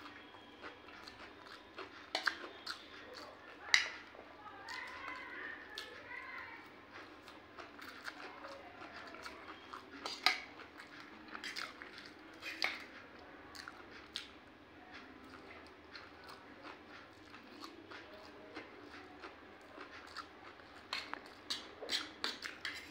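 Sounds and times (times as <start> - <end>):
person chewing noodles: 0.0 - 22.9.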